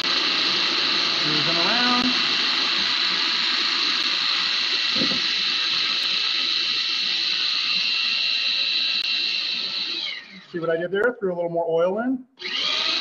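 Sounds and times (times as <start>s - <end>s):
food processor motor whining: 0.0s - 10.6s, 12.4s - 13.0s.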